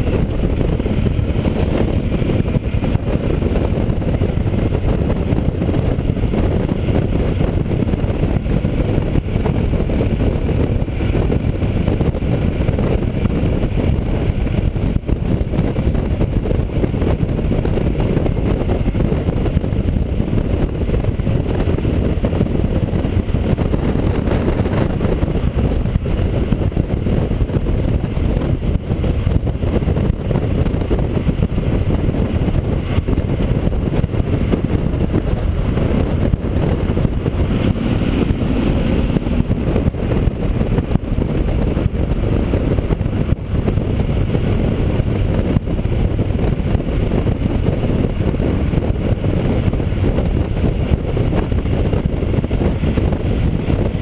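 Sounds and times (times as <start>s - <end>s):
motorcycle engine rumble: 0.0s - 54.0s
wind buffeting: 0.0s - 54.0s.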